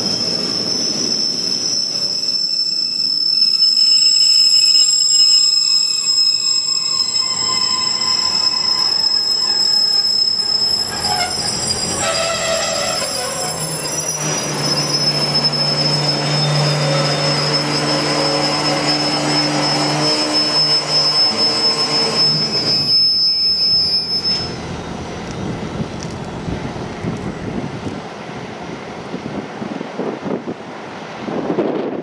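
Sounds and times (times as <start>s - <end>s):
high wheel squeal: 0.0s - 26.4s
train wheels rolling on rails: 0.0s - 32.0s.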